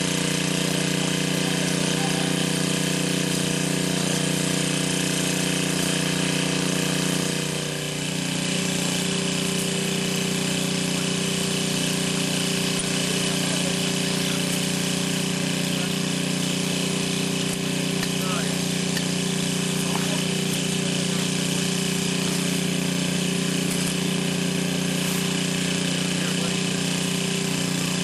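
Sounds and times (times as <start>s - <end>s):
steady machine drone: 0.0s - 28.0s.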